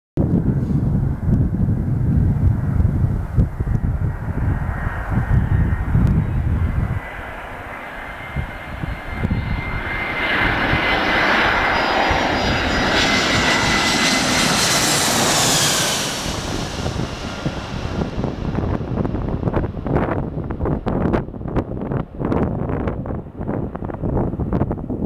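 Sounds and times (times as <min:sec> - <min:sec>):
low gusty rumble: 0:00.2 - 0:25.0
high jet whine: 0:00.3 - 0:25.0
jet engine passing overhead: 0:00.3 - 0:25.0.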